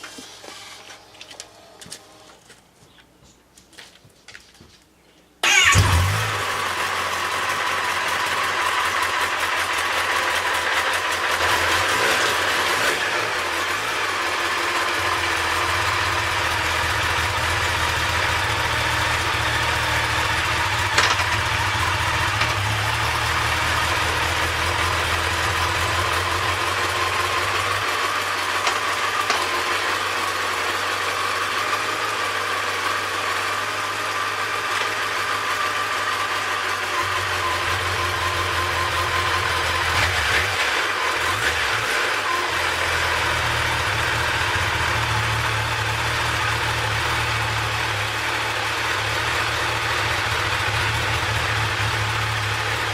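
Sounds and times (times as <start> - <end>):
motorcycle engine idling: 5.5 - 41.5, 42.1 - 52.9.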